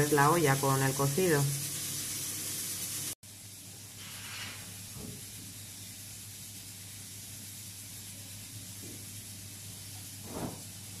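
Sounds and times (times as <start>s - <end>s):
pressure cooker hissing steam: 0.0s - 11.0s.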